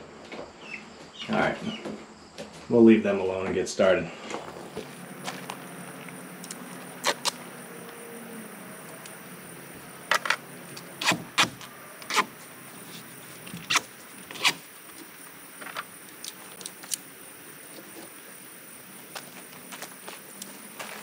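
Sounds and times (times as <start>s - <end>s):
steady low hiss: 2.6s - 21.0s.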